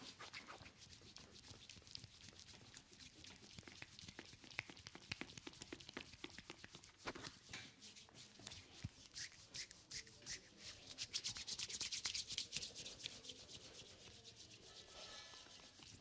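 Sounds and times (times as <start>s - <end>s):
hands rubbing skin: 0.0s - 16.0s.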